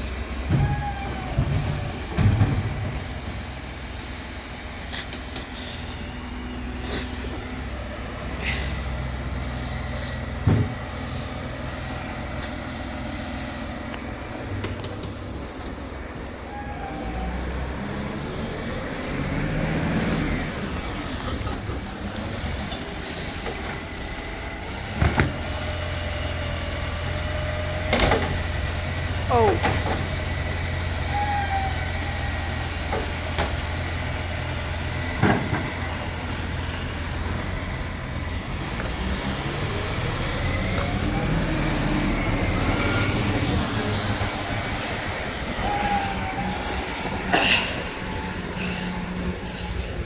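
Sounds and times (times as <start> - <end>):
hum of working gear: 0.0 - 19.4, 20.2 - 50.0
rubbish truck engine drone: 0.0 - 50.0.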